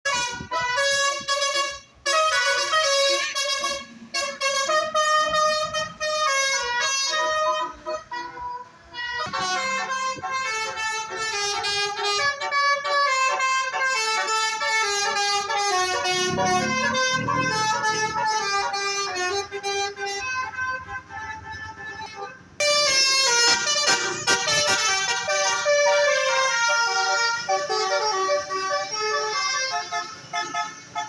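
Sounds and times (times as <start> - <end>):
musical bus horn playing a tune: 0.0 - 31.0.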